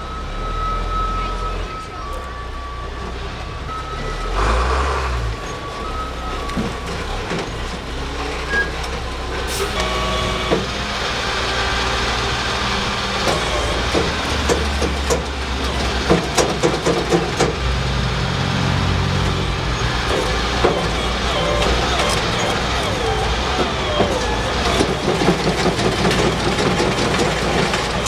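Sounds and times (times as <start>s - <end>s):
truck engine running under load: 0.0s - 28.0s.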